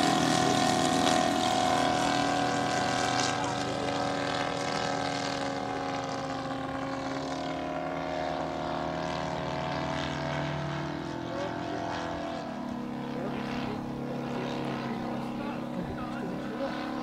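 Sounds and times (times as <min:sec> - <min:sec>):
model plane engines droning: 0:00.0 - 0:17.0.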